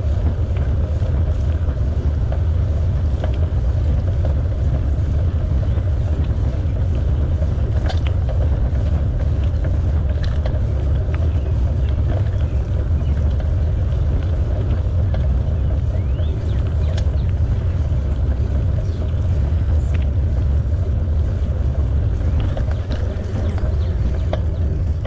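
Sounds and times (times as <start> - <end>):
bicycle tyre noise: 0.0 - 25.0
faint ticks and rattles: 0.0 - 25.0
wind rumbling on microphone: 0.0 - 25.0.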